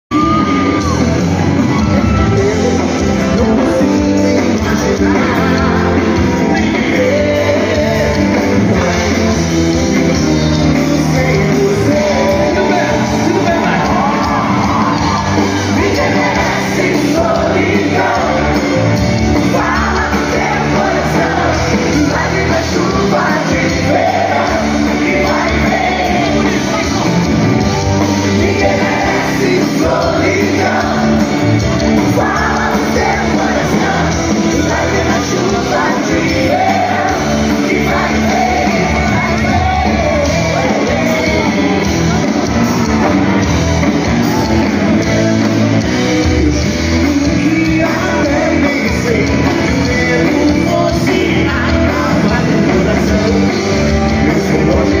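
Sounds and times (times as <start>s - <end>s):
live band playing: 0.1s - 55.0s
man singing: 1.8s - 27.4s, 28.2s - 42.6s, 44.6s - 55.0s.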